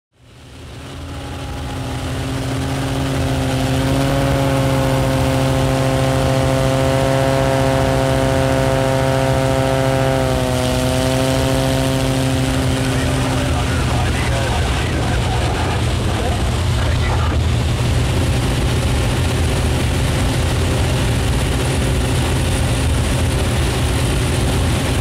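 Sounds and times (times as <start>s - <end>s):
propeller airplane engine droning: 0.1s - 25.0s.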